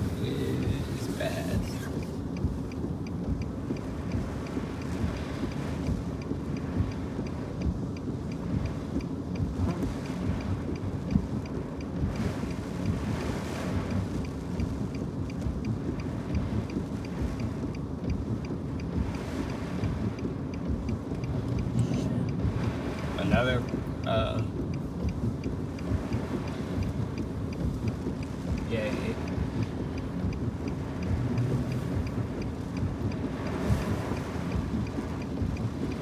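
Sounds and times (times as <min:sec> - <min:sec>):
faint regular ticking: 0:00.0 - 0:36.0.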